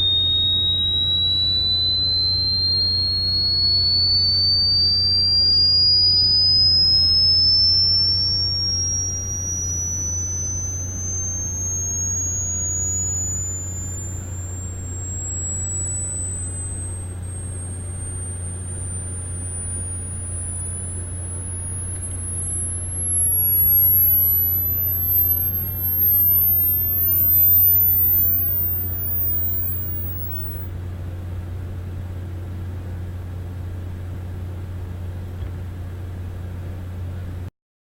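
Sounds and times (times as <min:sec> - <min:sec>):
sine tone sweeping upward: 0:00.0 - 0:30.7
steady low hum: 0:00.0 - 0:37.5.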